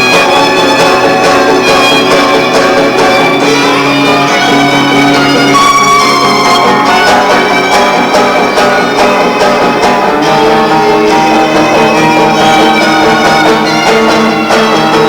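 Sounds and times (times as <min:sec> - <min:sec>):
guitar chords: 0:00.0 - 0:15.0
violin notes: 0:00.0 - 0:15.0.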